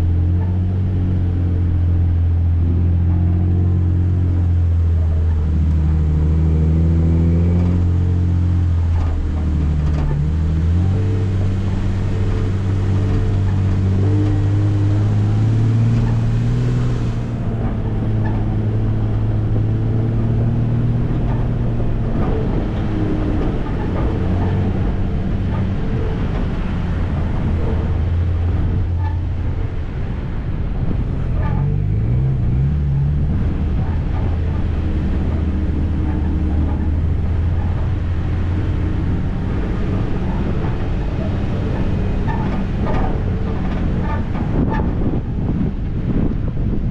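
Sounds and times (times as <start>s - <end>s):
vehicle engine revving low: 0.0s - 46.9s.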